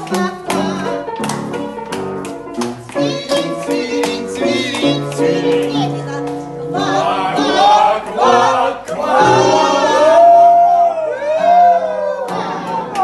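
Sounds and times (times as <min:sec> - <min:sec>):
people singing: 0:00.0 - 0:01.1, 0:02.9 - 0:13.0
instrumental accompaniment: 0:00.0 - 0:13.0.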